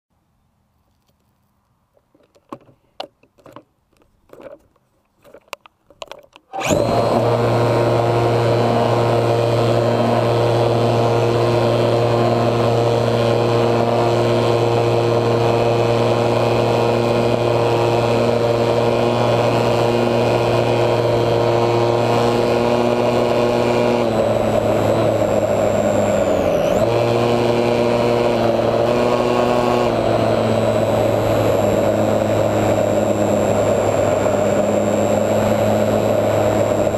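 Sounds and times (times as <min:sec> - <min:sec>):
electric motor and propeller: 0:05.2 - 0:36.9.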